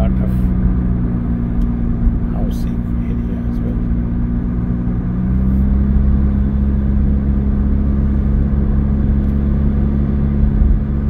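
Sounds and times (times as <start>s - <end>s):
car engine hum: 0.0s - 11.0s
road rumble: 0.0s - 11.0s.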